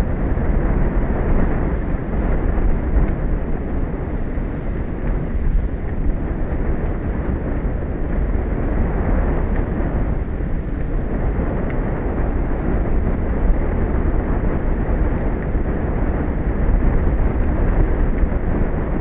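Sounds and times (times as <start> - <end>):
sea: 0.0 - 19.0
wind: 0.0 - 19.0.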